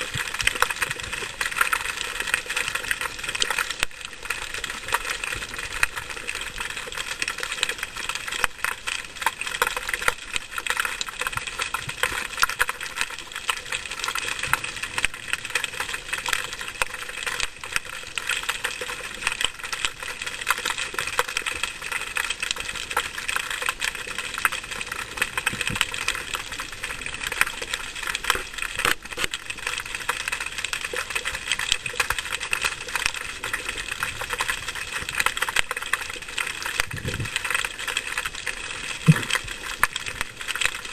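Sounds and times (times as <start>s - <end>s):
underwater crackle of tiny clicks: 0.0s - 40.9s.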